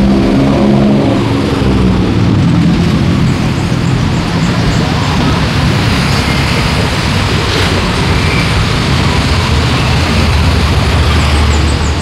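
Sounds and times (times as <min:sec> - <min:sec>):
cars passing: 0:00.0 - 0:12.0
motorbikes passing: 0:00.0 - 0:12.0.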